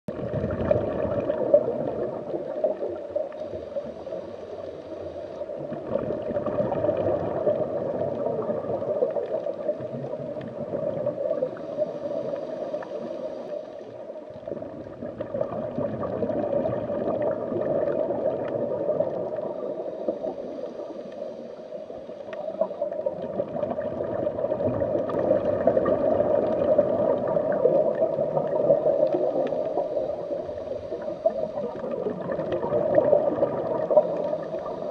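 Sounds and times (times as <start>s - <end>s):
underwater gurgling and bubbling: 0.1s - 34.9s.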